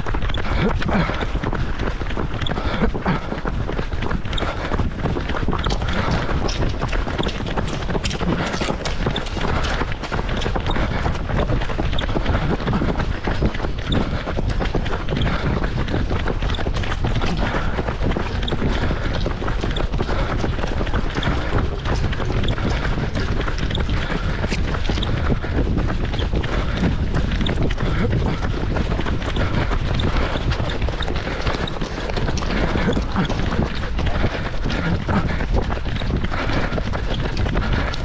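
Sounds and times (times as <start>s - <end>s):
footfalls on wet asphalt: 0.0s - 38.0s.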